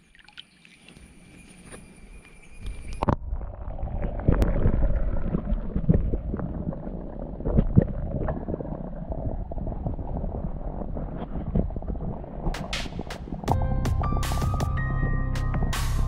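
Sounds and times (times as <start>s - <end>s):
underwater water rumble: 2.6s - 15.8s.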